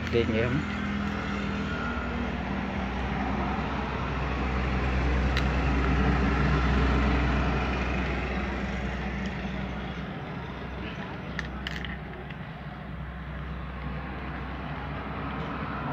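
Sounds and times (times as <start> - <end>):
vehicle engine rumbling: 0.0 - 15.9.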